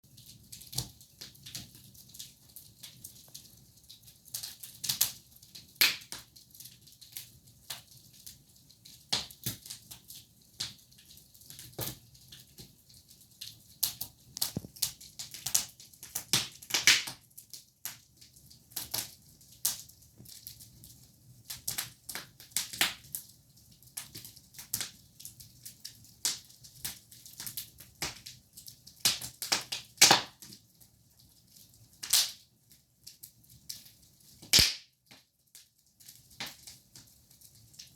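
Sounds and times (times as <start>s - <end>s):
wood fire crackling and popping: 0.1s - 37.9s.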